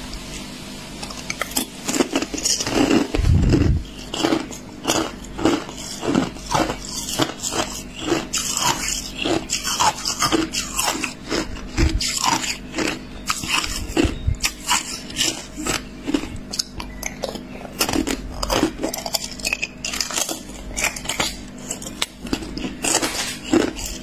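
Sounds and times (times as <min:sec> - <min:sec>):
ice being chewed: 0:01.0 - 0:24.0.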